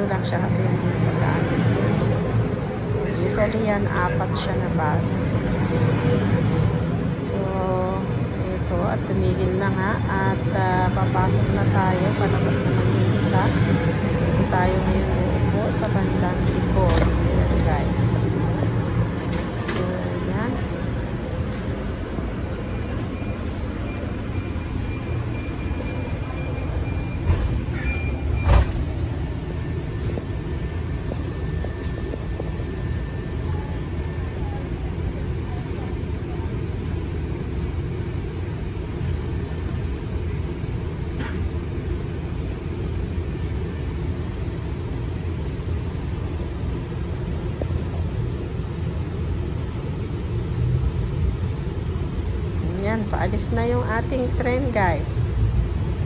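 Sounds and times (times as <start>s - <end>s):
low rumble inside rail car: 0.0s - 56.0s.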